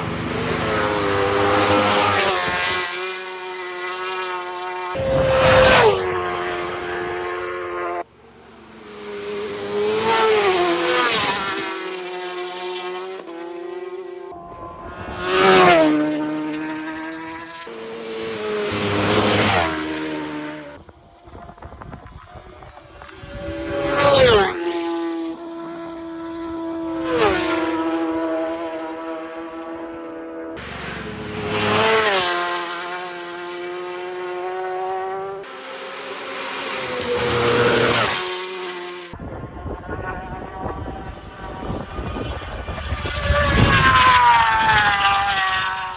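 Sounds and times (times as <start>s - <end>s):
racing motorcycles passing: 0.0s - 45.9s.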